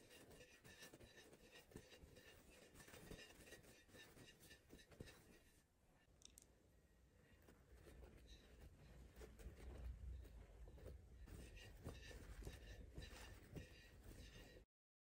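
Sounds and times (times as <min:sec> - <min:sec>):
spatula scraping cream on cake: 0:00.0 - 0:05.6, 0:07.9 - 0:14.7.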